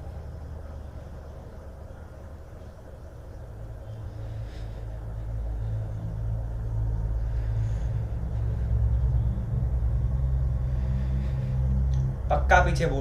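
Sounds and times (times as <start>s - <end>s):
low rumbling drone: 0.0s - 13.0s.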